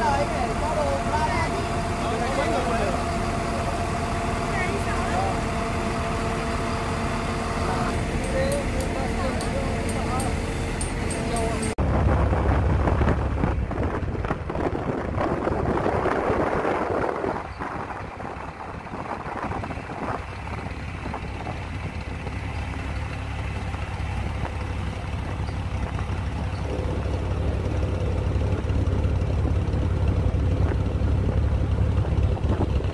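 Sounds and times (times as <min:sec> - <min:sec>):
heavy engine humming: 0:00.0 - 0:32.9.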